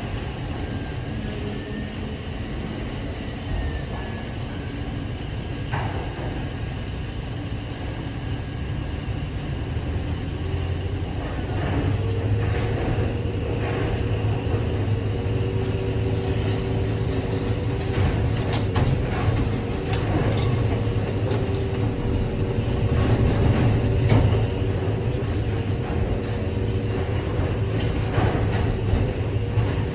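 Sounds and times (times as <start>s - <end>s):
low machine drone: 0.0s - 29.9s.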